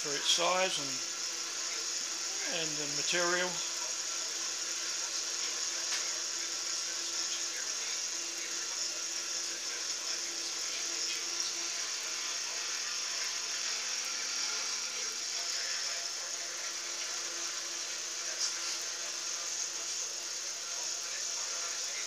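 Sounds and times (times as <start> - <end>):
milling machine whirring: 0.0 - 22.0.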